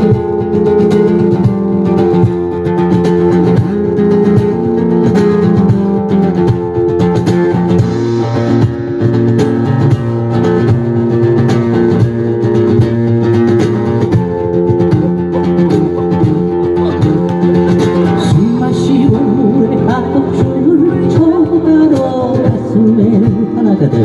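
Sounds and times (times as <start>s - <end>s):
guitar strumming chords: 0.0s - 24.0s.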